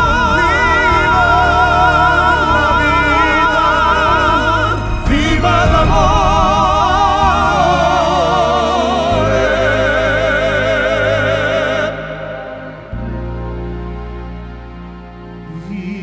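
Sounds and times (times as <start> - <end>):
male trio singing operatically: 0.0 - 13.8, 15.4 - 16.0
band playing: 0.0 - 16.0.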